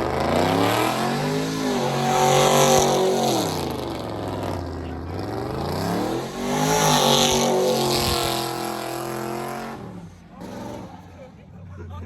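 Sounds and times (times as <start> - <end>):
car engine accelerating hard: 0.0 - 11.4.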